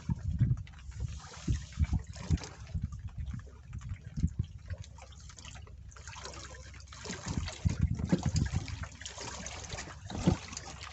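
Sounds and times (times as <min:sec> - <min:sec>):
water sloshing and splashing: 0:00.0 - 0:10.9.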